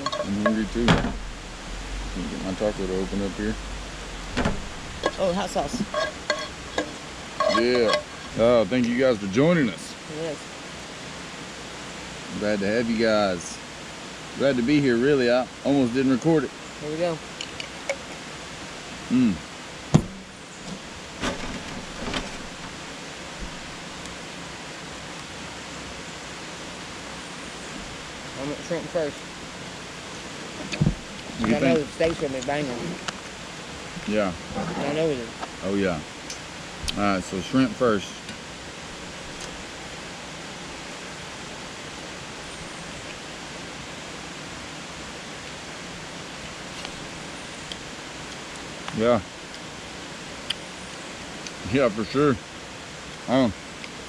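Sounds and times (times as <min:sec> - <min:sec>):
steady rushing hiss: 0:00.0 - 0:54.0.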